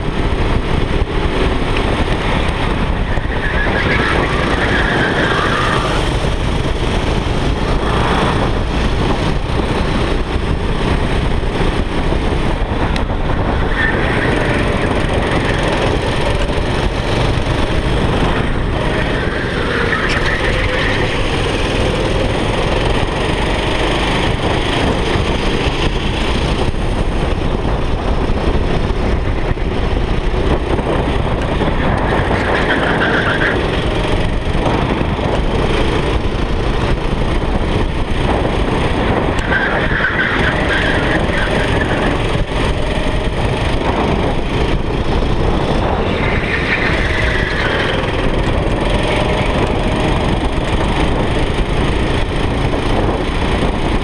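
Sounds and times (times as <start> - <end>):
go-kart engine: 0.0 - 54.0
wind noise on microphone: 0.0 - 54.0.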